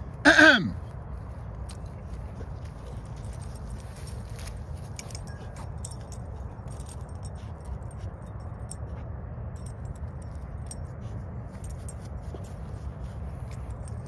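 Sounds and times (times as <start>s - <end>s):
dog tags jingling: 1.6s - 14.0s.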